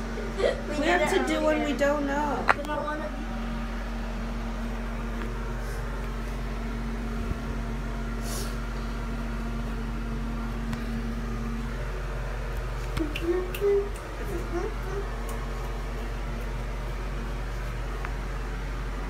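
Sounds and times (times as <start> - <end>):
electric fan motor humming: 0.0 - 19.0.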